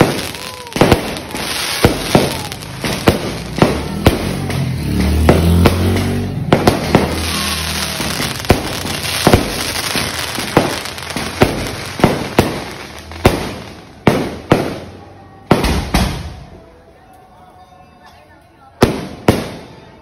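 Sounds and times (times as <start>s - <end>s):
fireworks bangs: 0.0s - 16.7s, 18.8s - 20.0s.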